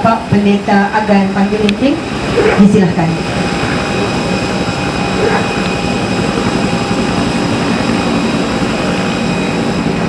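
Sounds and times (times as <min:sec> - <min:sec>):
jet engine running: 0:00.0 - 0:10.0
thin steady whine: 0:00.0 - 0:10.0.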